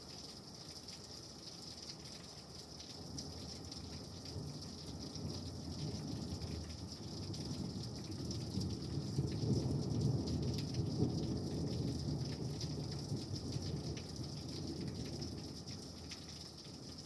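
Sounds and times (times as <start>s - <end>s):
rain hissing and pattering: 0.0s - 17.0s.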